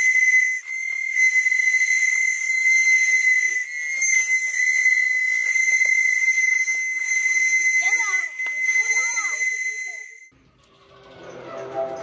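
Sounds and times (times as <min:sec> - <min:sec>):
high-pitched whistling tone: 0:00.0 - 0:10.3.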